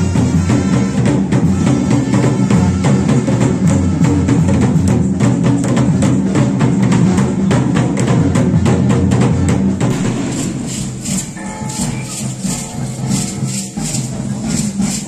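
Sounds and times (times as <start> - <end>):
drums and percussion beat: 0.0 - 15.0.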